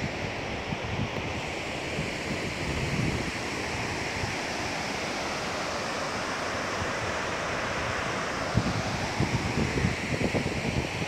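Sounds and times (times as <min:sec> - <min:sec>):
wind buffeting microphone: 0:00.0 - 0:04.9, 0:06.7 - 0:11.0
waterfall rushing: 0:01.4 - 0:10.3.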